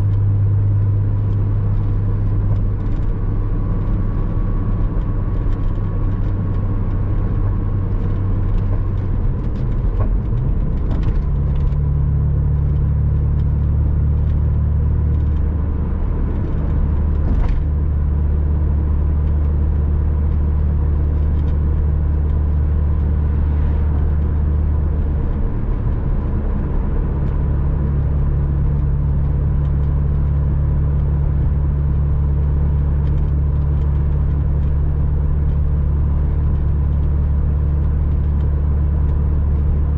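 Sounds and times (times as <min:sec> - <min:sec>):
car engine pulling while driving: 0:00.0 - 0:39.9
tyre and road noise: 0:00.0 - 0:39.9.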